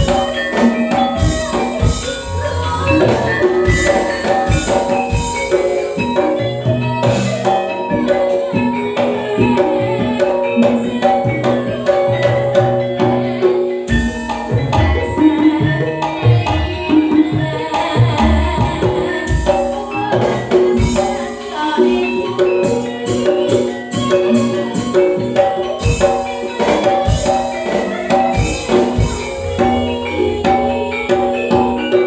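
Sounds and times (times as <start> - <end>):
hand drums: 0.0 - 32.0
ringing pitched metal notes: 0.0 - 32.0.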